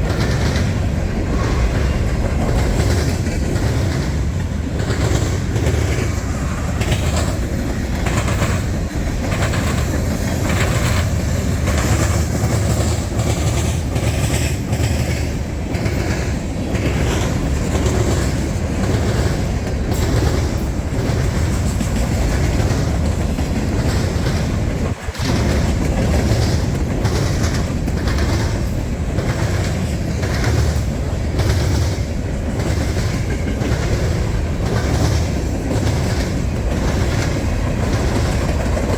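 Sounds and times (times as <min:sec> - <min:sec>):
train wheels clacking over rail joints: 0:00.0 - 0:38.9.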